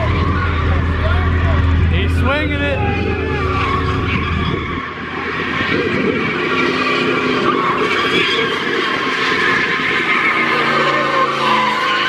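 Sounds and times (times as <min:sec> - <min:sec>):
car engine running hard: 0:00.0 - 0:12.0
car tires squealing: 0:00.0 - 0:12.0.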